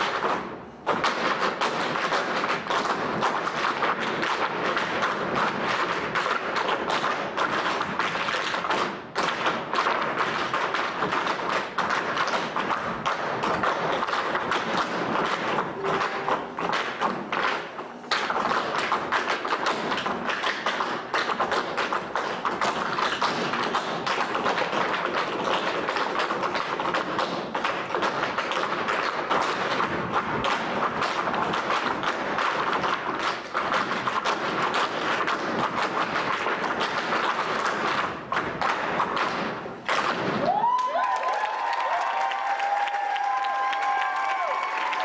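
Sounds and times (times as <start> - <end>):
tap shoes on wooden floor: 0.0 - 42.0.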